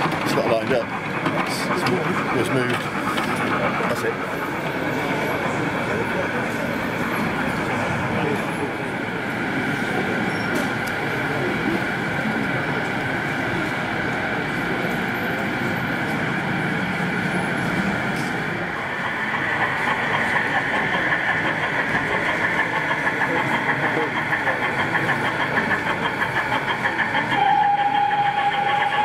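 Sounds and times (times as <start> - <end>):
model train whine: 0.0 - 29.0
murmur of chatter: 0.0 - 29.0
wheels clicking on track: 0.0 - 29.0.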